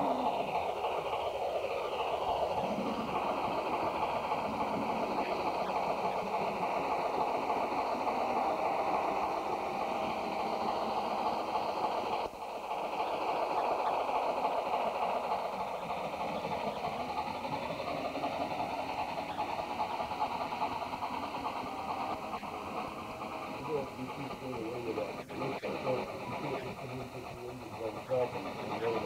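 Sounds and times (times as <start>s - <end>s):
model train running rumble: 0.0s - 29.0s.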